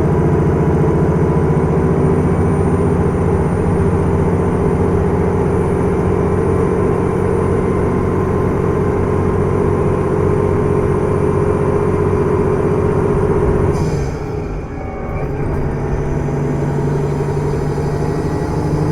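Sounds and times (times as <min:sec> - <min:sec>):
train diesel engine running: 0:00.0 - 0:18.9
wheels rumbling on track: 0:00.0 - 0:18.9.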